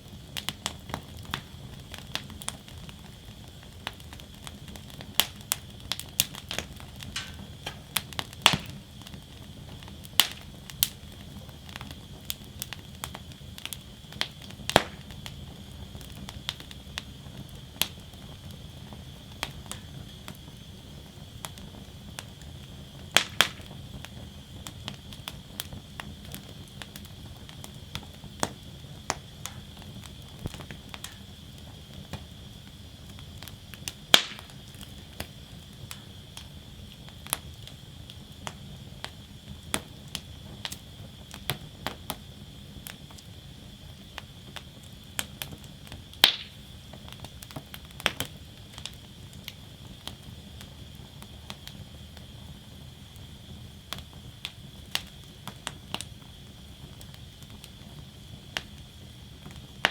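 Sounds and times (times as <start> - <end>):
steady high hiss: 0.0 - 59.9
wood fire crackling: 0.0 - 59.9.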